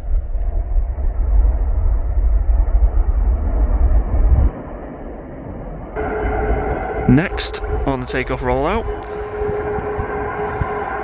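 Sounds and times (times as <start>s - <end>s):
jet airliner engines: 0.0s - 11.0s
wind rumble on microphone: 0.0s - 11.0s.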